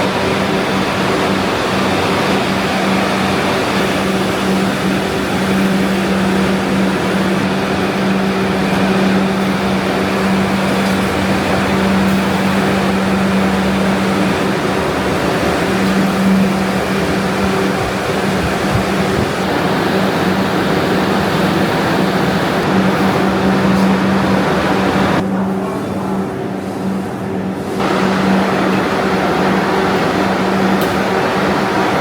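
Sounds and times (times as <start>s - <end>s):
factory machinery humming: 0.0s - 32.0s.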